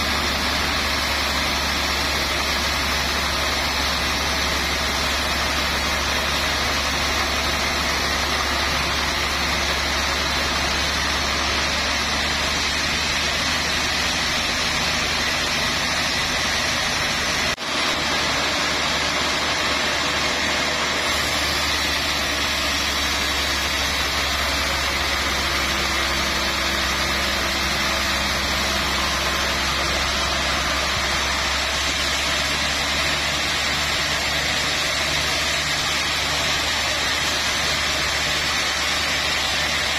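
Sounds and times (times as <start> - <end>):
band saw mill droning: 0.0 - 39.9.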